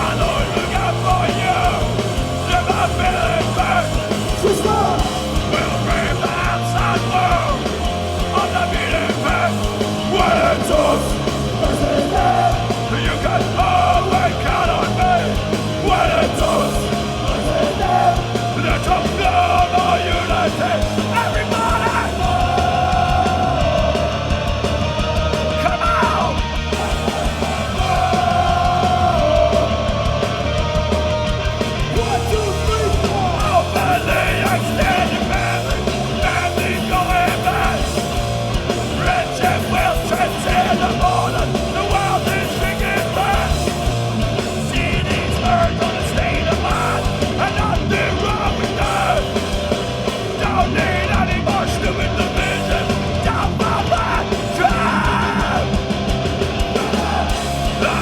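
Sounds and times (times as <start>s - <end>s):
bass: 0.0s - 58.0s
distorted guitars: 0.0s - 58.0s
drums: 0.0s - 58.0s
shouted vocals: 0.0s - 58.0s.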